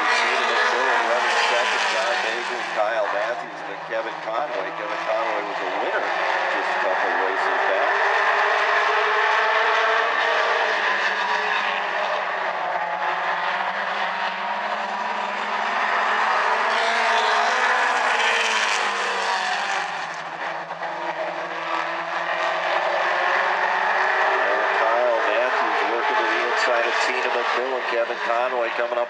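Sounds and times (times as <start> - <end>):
race cars passing at speed: 0.0 - 29.0.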